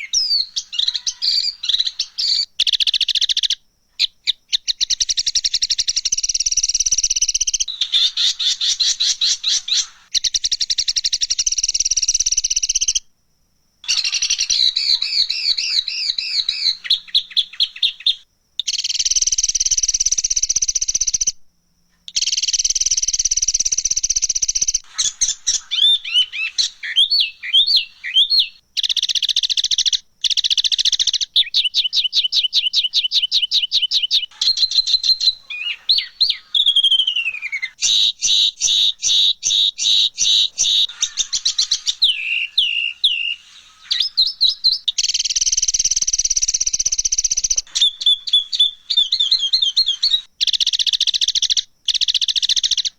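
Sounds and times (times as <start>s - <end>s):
falling slurred bird whistles: 0.0s - 2.9s, 7.6s - 13.0s, 13.9s - 21.3s, 22.1s - 29.7s, 30.4s - 51.4s
buzzy bird chattering: 0.0s - 3.6s, 4.8s - 13.0s, 13.9s - 21.3s, 22.1s - 31.3s, 34.0s - 52.9s
bird trills: 0.0s - 13.0s, 13.8s - 21.4s, 22.1s - 52.9s.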